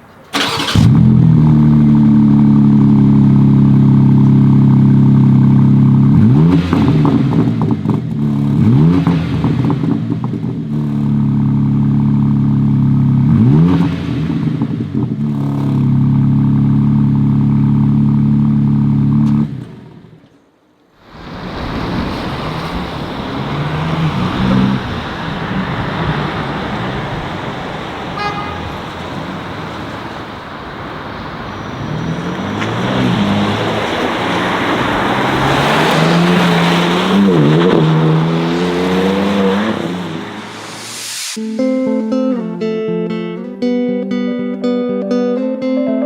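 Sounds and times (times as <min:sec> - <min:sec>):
car engine idling and revving: 0:00.3 - 0:41.4.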